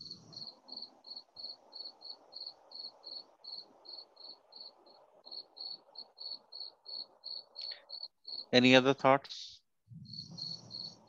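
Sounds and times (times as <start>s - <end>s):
cricket chirping: 0.0s - 8.6s, 10.0s - 11.0s.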